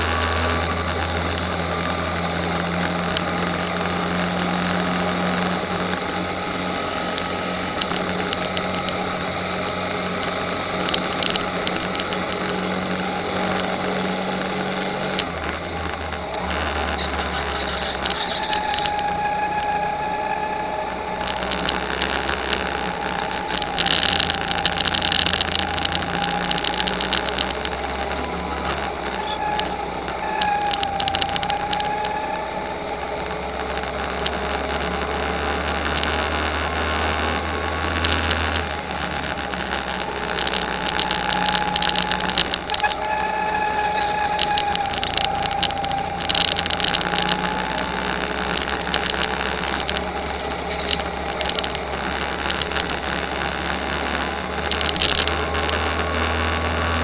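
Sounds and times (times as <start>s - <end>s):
crackles and rattles: 0.0s - 57.0s
go-kart engine running: 0.0s - 57.0s.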